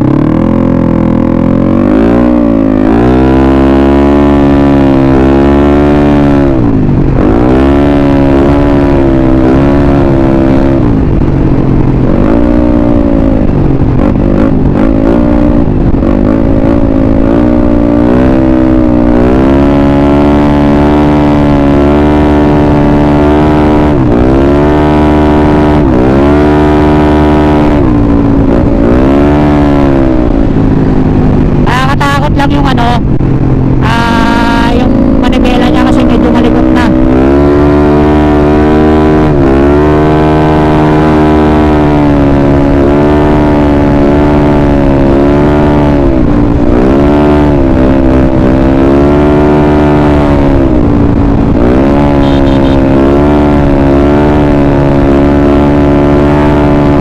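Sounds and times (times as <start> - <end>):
scooter engine revving: 0.0 - 57.0.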